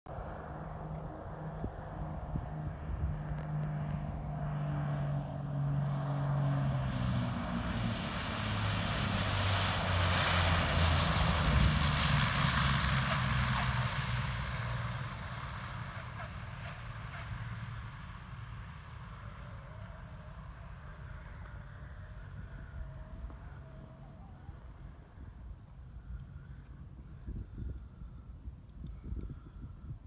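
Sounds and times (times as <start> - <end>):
propeller plane landing: 0.1 - 30.0.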